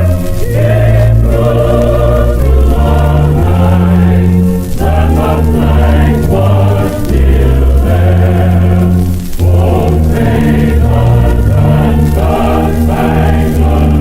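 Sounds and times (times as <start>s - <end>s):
deep bass: 0.0s - 14.0s
slow music of held chords: 0.0s - 14.0s.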